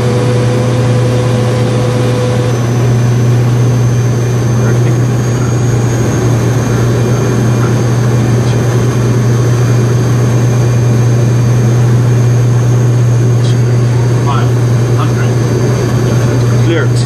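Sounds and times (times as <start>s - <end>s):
faint high whine: 0.0s - 17.0s
propeller and engine drone: 0.0s - 17.0s.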